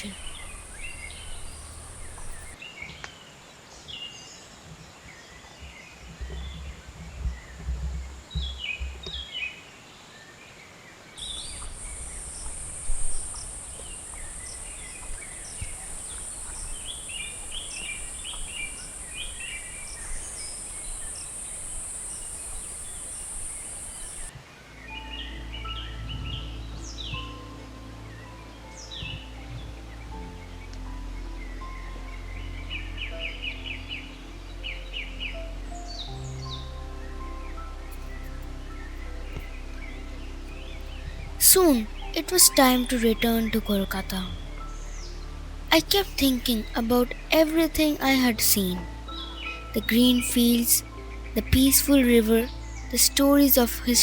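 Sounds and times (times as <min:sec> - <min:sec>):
low rumbling: 0:00.0 - 0:02.6, 0:04.8 - 0:09.4, 0:11.2 - 0:54.0
birds chirping: 0:00.0 - 0:54.0.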